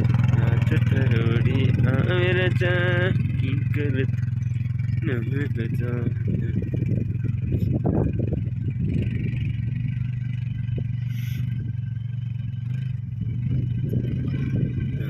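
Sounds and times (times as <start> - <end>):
quad bike engine droning: 0.0 - 15.0.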